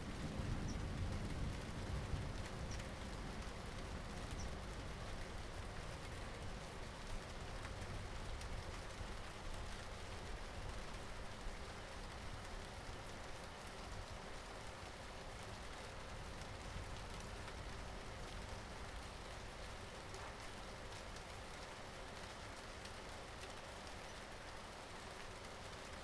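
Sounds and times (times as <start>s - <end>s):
steady rain: 0.0s - 26.0s
raindrops ticking: 0.1s - 26.0s.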